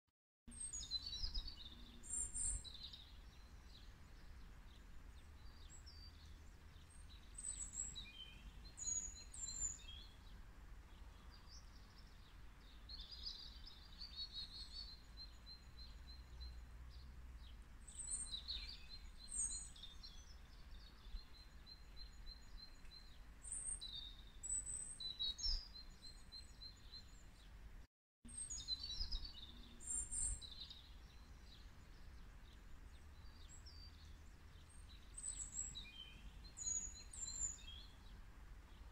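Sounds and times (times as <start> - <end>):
songbirds chirping and trilling: 0.5 - 38.9.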